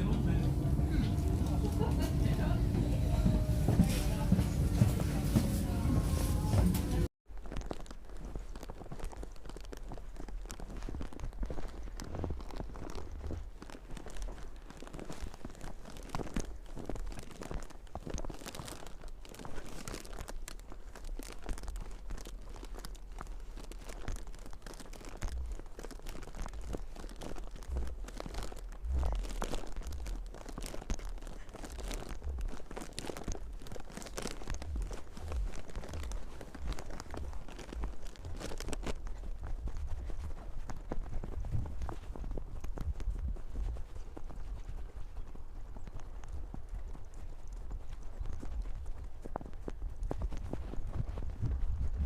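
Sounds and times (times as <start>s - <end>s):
footsteps crunching on snow: 0.0s - 52.0s.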